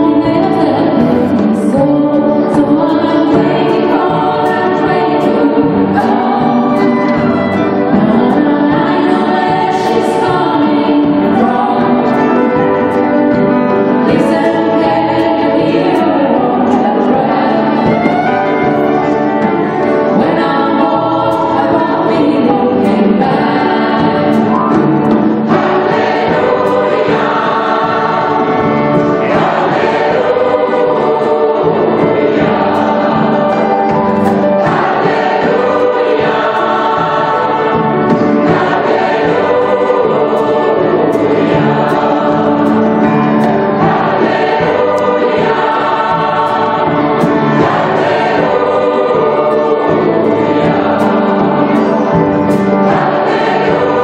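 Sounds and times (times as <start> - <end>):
amplified lead voices singing: 0.0 - 54.0
choir singing: 0.0 - 54.0.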